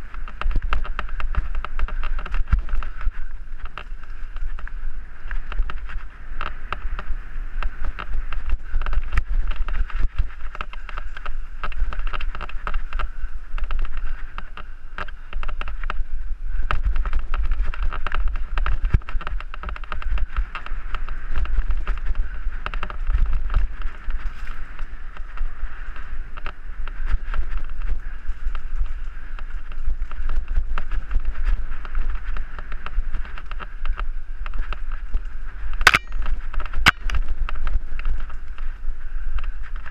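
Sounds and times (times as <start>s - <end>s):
bike rattling over trail: 0.0s - 39.9s
wind buffeting microphone: 0.0s - 39.9s.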